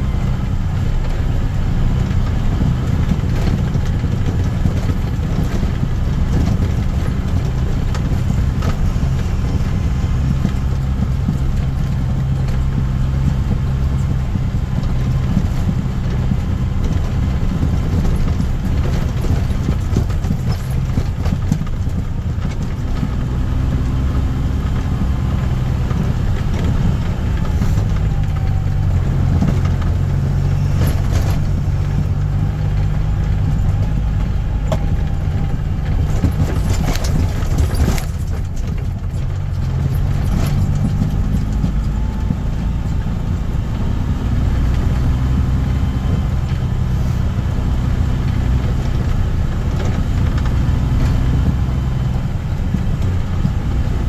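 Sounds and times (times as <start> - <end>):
diesel truck engine running: 0.0 - 54.0
light rattles: 0.0 - 54.0.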